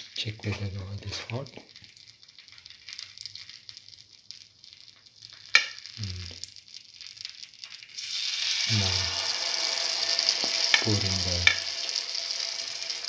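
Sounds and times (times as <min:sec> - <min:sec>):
hot oil sizzling faintly: 0:00.0 - 0:13.0.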